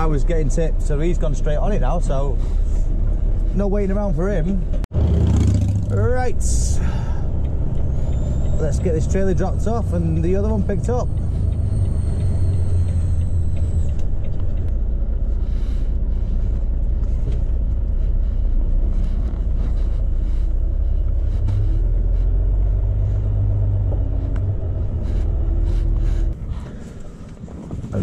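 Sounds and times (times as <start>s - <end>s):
diesel engine rumble: 0.0s - 28.0s.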